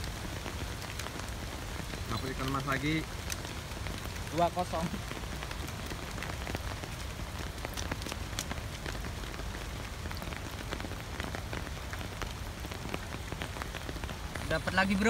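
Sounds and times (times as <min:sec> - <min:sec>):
raindrop taps: 0:00.0 - 0:15.0
steady rain: 0:00.0 - 0:15.0.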